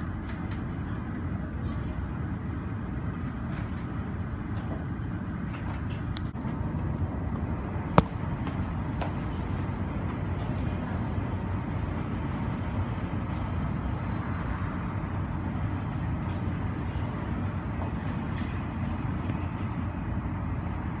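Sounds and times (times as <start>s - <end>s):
ground traffic: 0.0s - 21.0s.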